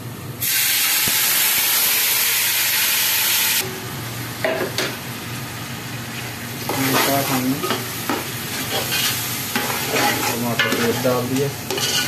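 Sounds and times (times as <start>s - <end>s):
hot oil sizzling: 0.4s - 12.0s.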